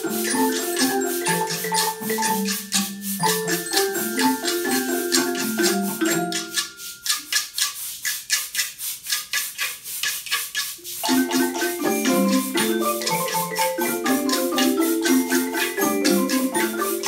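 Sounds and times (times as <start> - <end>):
short dry percussion strokes: 0.0 - 17.0
wooden xylophones playing: 0.0 - 17.0.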